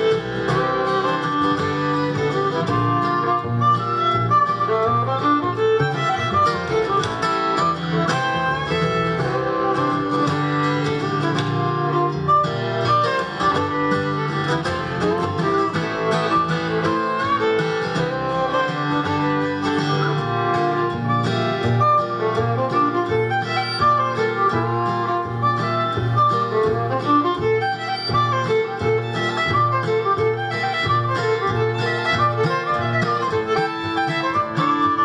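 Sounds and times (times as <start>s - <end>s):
acoustic guitar strumming: 0.0s - 35.0s
double bass plucking: 0.0s - 35.0s
fiddle melody: 0.0s - 35.0s.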